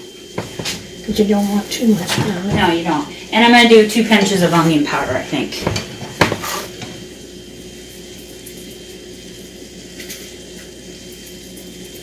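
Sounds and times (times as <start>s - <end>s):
appliance motor humming: 0.0s - 12.0s.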